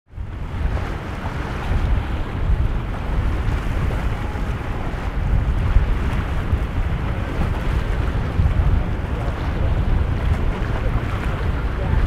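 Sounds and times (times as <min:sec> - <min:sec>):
rough sea water washing: 0:00.1 - 0:12.0
wind buffeting microphone: 0:00.1 - 0:12.0.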